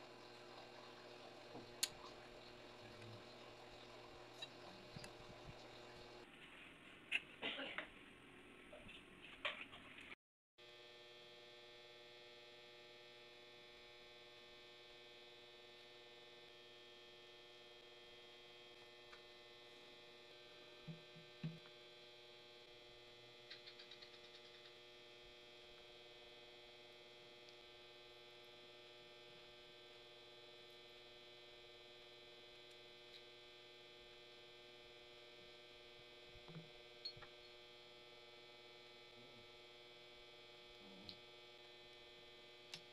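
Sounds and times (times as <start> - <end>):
faint electrical hum: 0.0 - 42.9.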